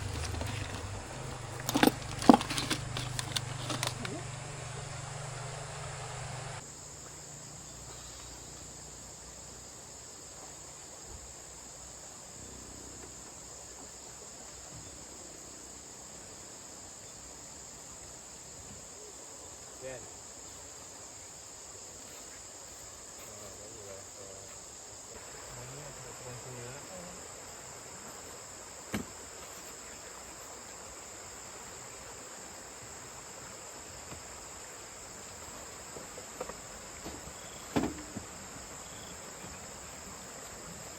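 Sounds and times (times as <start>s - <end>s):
night insects chorus: 0.0s - 40.9s.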